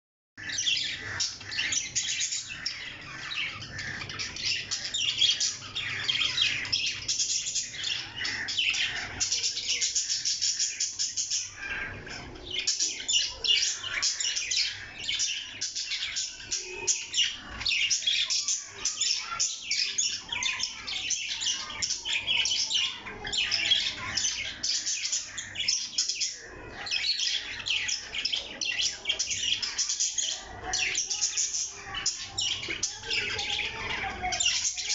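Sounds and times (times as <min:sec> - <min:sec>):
parrots chirping and squawking: 0:00.4 - 0:34.9.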